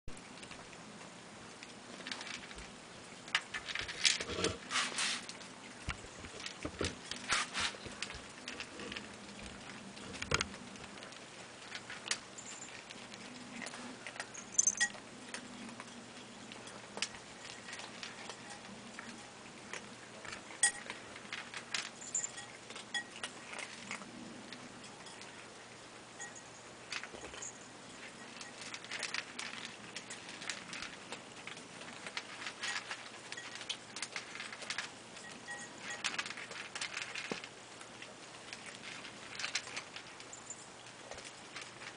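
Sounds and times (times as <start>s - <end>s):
cats crunching kibble: 0.1s - 41.9s.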